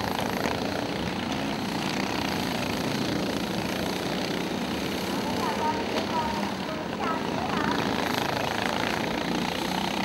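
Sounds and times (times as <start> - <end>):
go-kart engines passing: 0.0 - 10.0.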